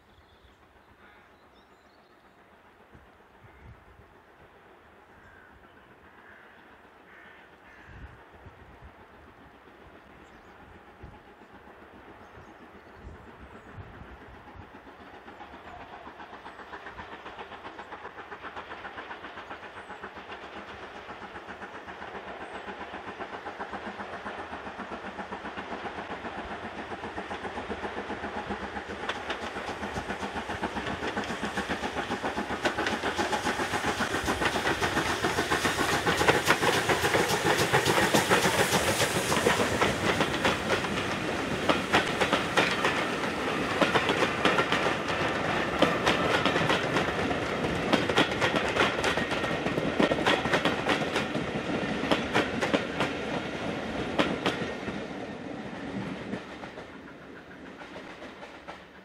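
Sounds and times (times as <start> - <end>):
train wheels clattering on rails: 0.0 - 59.0
steam hiss: 2.3 - 59.0.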